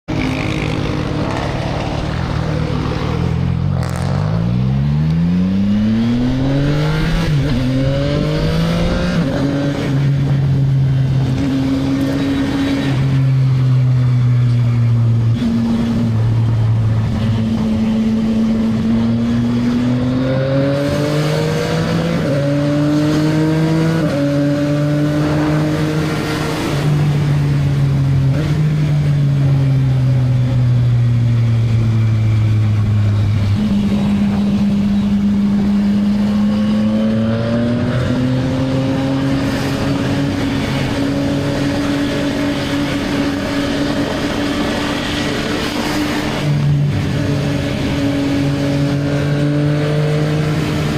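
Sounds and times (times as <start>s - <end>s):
motorcycle engine accelerating: 0.1s - 50.9s.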